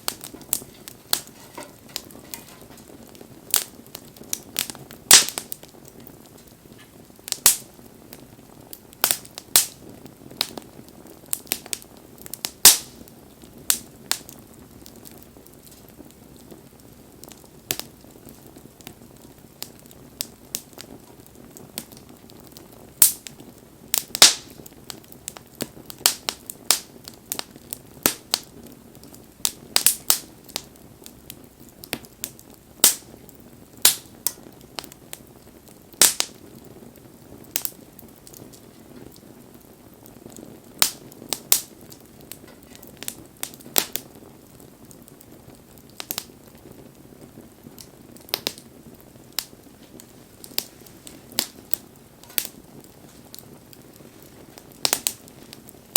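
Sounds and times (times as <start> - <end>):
campfire popping and snapping: 0.0 - 55.9
faint hiss of burning: 0.0 - 55.9.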